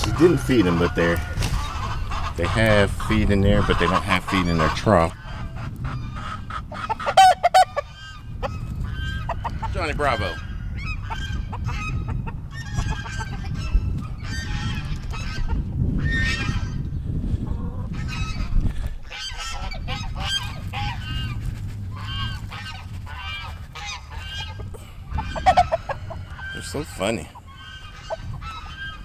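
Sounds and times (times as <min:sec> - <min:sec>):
geese honking: 0:00.0 - 0:16.8, 0:17.9 - 0:29.0.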